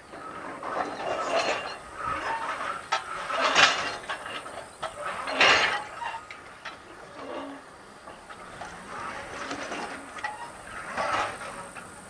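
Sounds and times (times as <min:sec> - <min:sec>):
sharp metallic clanks: 0:00.1 - 0:11.9.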